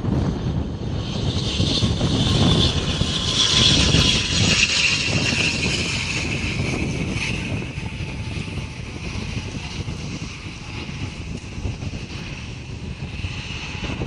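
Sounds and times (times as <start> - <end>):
aircraft engines whining: 0.0 - 14.0
wind rumble on microphone: 0.0 - 14.0.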